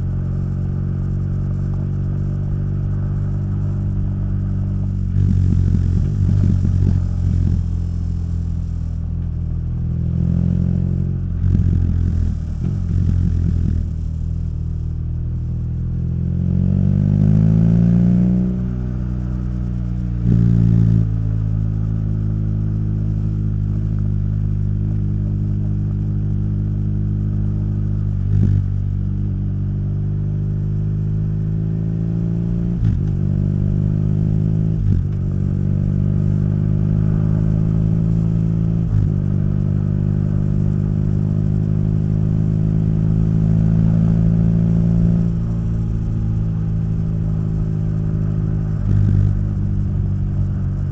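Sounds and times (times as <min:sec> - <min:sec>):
motorcycle engine and exhaust: 0:00.0 - 0:50.9.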